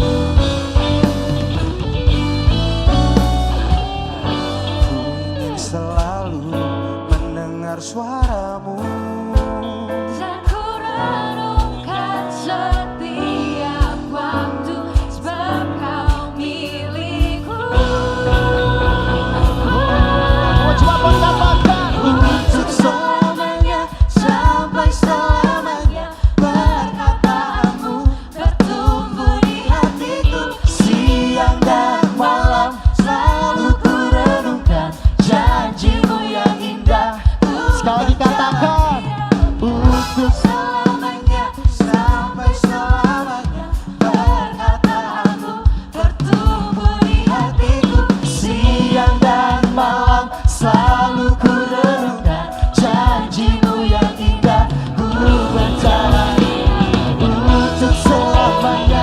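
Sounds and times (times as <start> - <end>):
steady drum beat: 0.0 - 7.6, 8.2 - 9.7, 10.4 - 59.0
church band worship music: 0.0 - 59.0.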